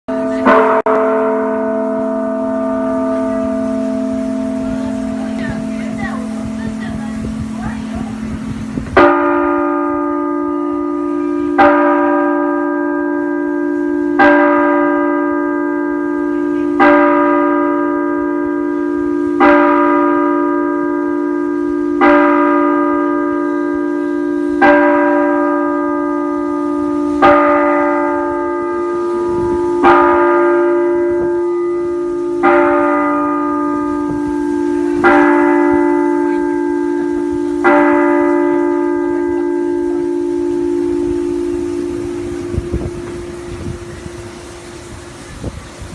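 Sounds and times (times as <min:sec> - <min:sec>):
church bell tolling: 0:00.1 - 0:45.9.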